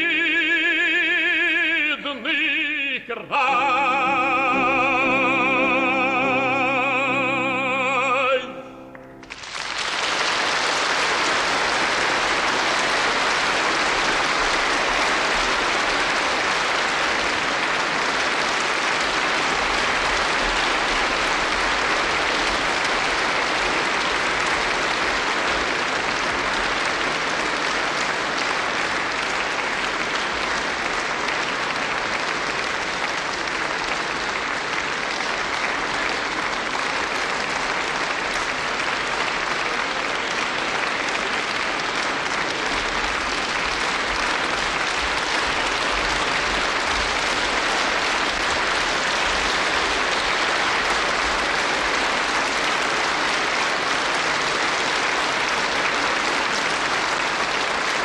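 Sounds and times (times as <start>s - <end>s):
audience applauding: 3.4s - 58.0s.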